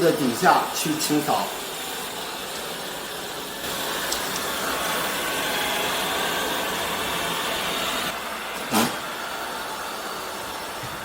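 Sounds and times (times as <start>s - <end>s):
robot vacuum cleaner whirring: 0.1s - 11.0s.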